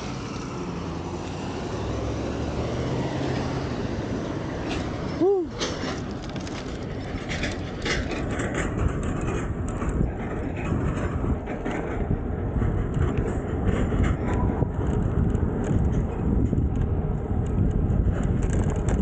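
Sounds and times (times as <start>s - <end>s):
bike tyre rumble on asphalt: 0.0s - 19.0s
wind rushing over microphone: 0.0s - 19.0s.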